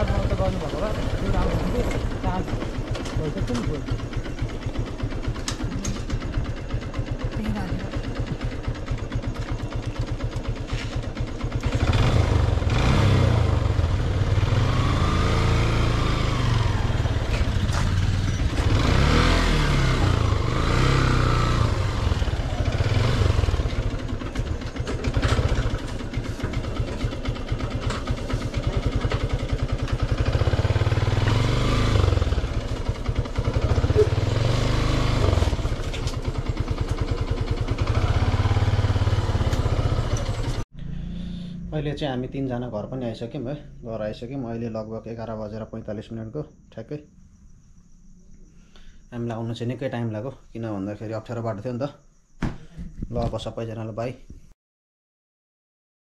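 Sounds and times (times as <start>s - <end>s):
motorcycle engine revving: 0.0s - 45.6s.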